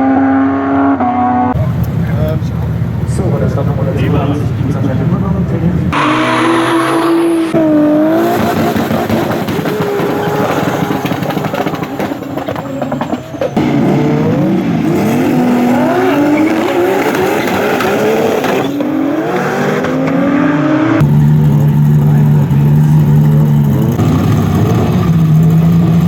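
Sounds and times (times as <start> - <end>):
race car engines accelerating: 0.0 - 26.0.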